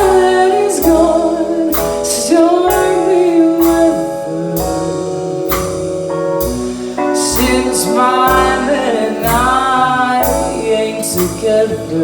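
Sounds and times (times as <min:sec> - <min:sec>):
sharp percussion hits: 0:00.0 - 0:11.5
live band playing bluesy ballad: 0:00.0 - 0:12.0.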